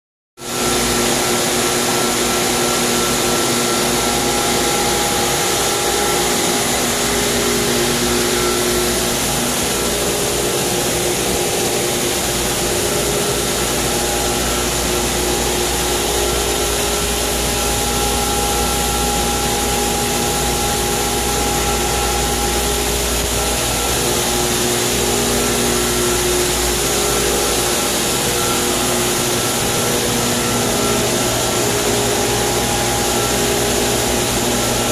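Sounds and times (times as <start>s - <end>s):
pool pump motor whirring: 0.4s - 34.9s.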